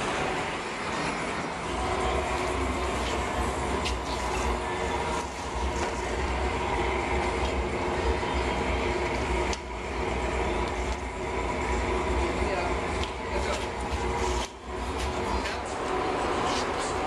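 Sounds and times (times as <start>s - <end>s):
gas furnace rushing: 0.0s - 17.0s.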